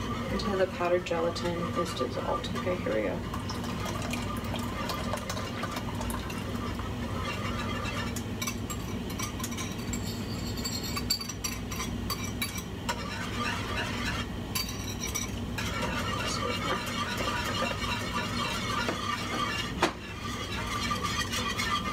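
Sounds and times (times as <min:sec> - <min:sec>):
steady low hum: 0:00.0 - 0:21.9
wire whisk clinking in saucepan: 0:04.1 - 0:21.9.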